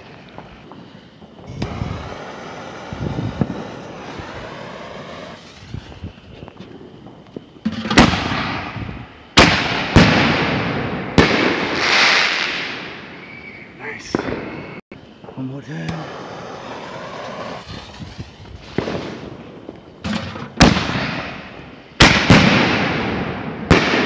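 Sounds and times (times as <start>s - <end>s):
sharp firework bangs: 0.0s - 6.1s, 6.9s - 13.4s, 14.0s - 24.0s
crackling firework hiss: 0.0s - 24.0s.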